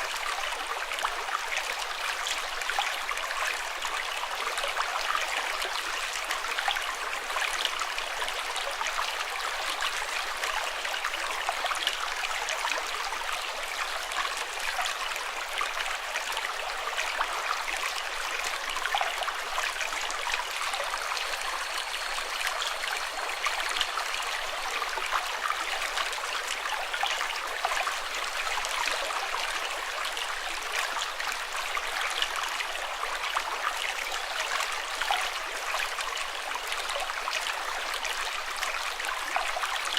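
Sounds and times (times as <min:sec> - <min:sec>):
running water in a small stream: 0:00.0 - 0:39.9.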